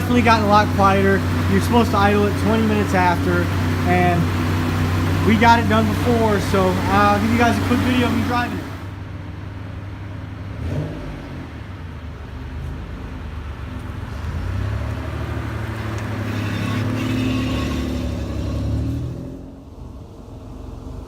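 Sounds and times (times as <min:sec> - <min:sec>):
car engine and exhaust: 0:00.0 - 0:21.0.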